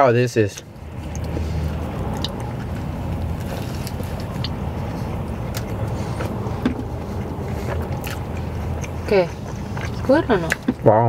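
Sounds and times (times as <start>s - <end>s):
man chewing food: 0.4s - 11.0s
car cabin rumble: 0.9s - 11.0s.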